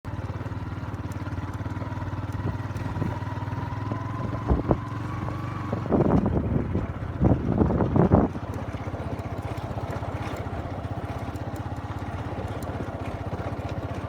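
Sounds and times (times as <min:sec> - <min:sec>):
engine running with even pulse: 0:00.1 - 0:14.0.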